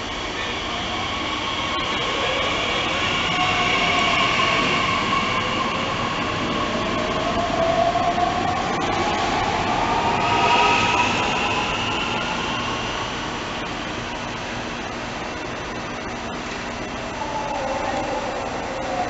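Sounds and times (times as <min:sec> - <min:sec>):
electric train traction motors whining: 0:00.0 - 0:19.0.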